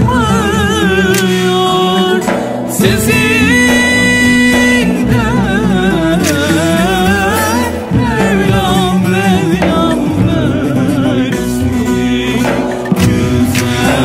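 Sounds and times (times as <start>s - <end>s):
ensemble with bass notes: 0.0s - 14.0s
folk melody with vibrato: 0.0s - 14.0s
person singing: 0.0s - 14.0s.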